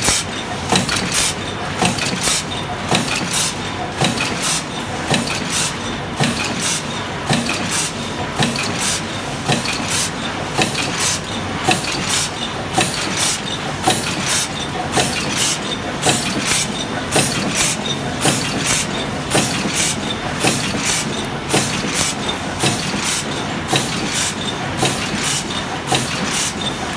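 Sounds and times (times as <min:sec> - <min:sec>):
press machine stamping: 0:00.0 - 0:26.9.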